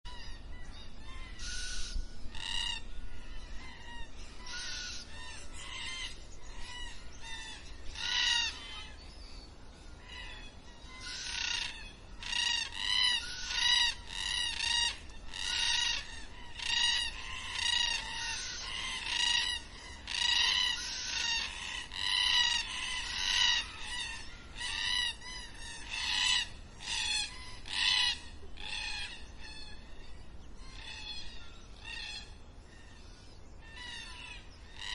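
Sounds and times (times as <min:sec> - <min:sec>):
cockatoos calling: 0:01.0 - 0:09.0, 0:10.0 - 0:30.0.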